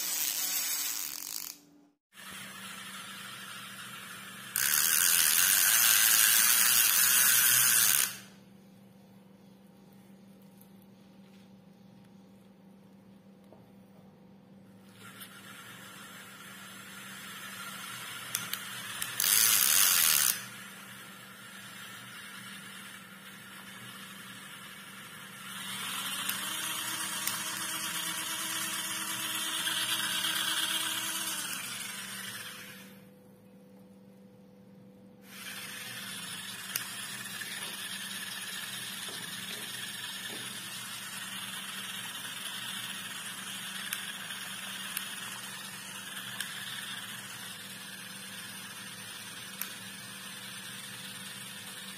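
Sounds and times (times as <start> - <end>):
toy electric motors whirring: 0.0 - 8.4, 14.8 - 33.1, 35.2 - 51.9.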